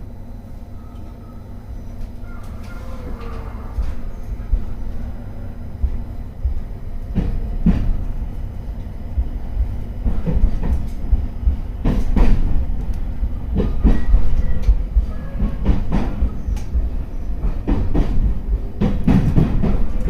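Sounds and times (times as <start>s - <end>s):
train running low rumble: 0.0s - 20.0s.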